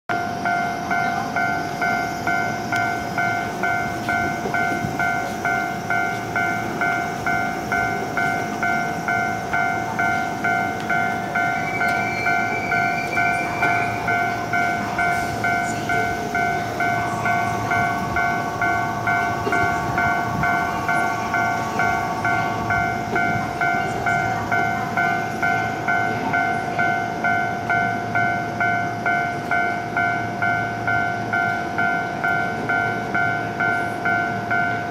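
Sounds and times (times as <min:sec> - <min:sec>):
level-crossing alarm ringing: 0:00.1 - 0:34.9.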